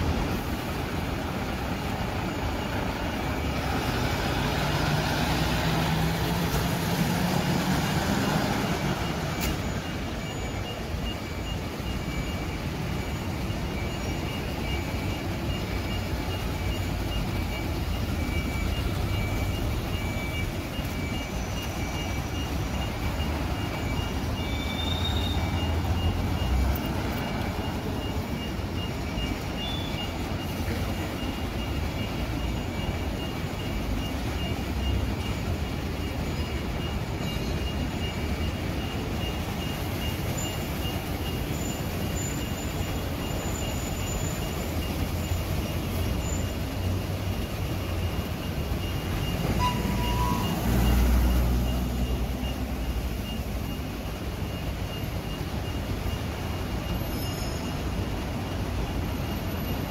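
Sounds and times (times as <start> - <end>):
diesel engine pulling away: 0.0 - 53.8
reversing alarm beeps: 0.0 - 59.9
street traffic: 0.0 - 59.9.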